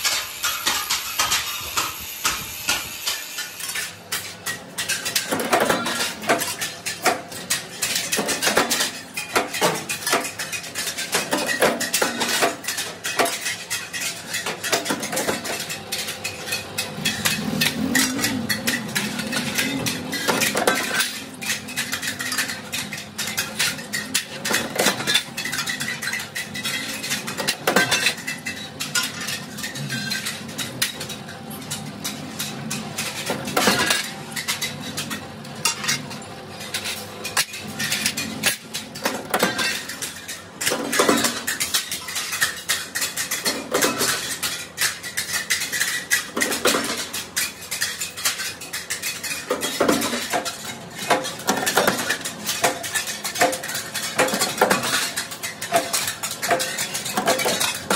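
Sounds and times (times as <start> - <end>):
steel blades clanking: 0.0 - 57.9.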